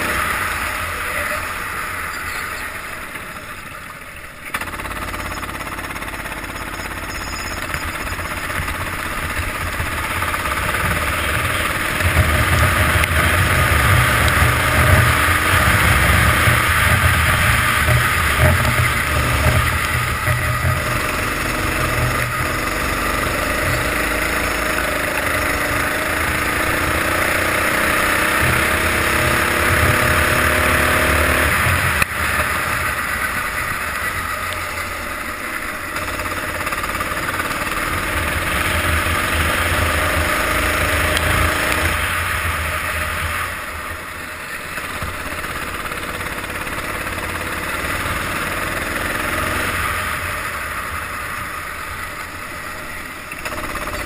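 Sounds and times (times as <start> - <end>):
kart engine: 0.0 - 54.0.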